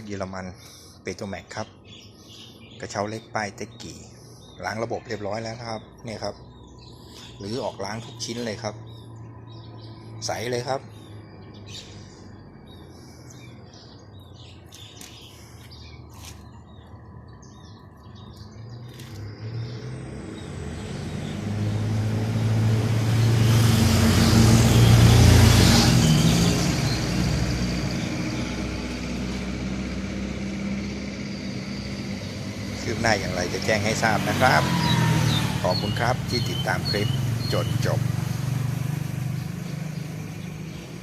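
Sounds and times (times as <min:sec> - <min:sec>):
small birds chirping: 0:00.0 - 0:29.7, 0:30.6 - 0:41.0
motor vehicle passing by: 0:06.3 - 0:41.0.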